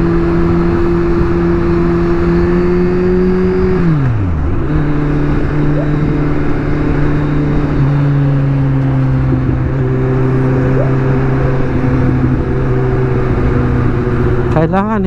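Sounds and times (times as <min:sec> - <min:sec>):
motorcycle engine cruising: 0:00.0 - 0:15.0
road and wind rush: 0:00.0 - 0:15.0.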